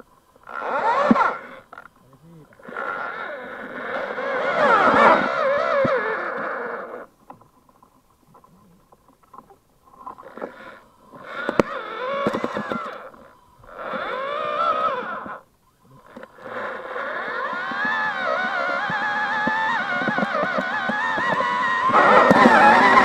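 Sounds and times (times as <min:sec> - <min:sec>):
electric motors whining: 0:00.0 - 0:07.1, 0:10.1 - 0:23.0.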